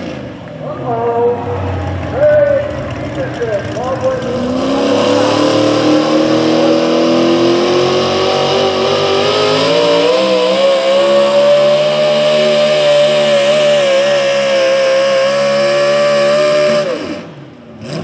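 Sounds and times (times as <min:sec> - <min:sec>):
truck engine screaming at high revs: 0:00.0 - 0:18.0.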